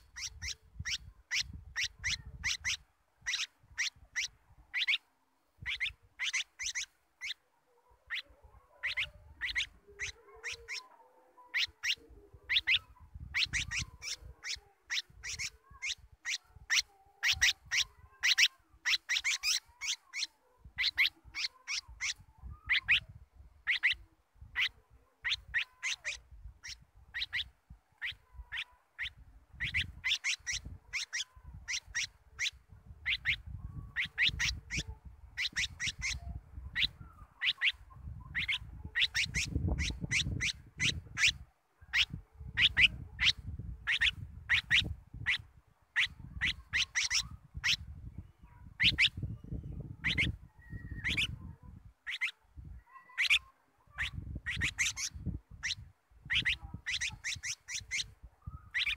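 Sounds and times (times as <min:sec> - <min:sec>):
bird chirping rapidly: 0:00.0 - 0:07.4, 0:08.1 - 0:48.0, 0:48.7 - 0:52.4, 0:53.0 - 0:58.9.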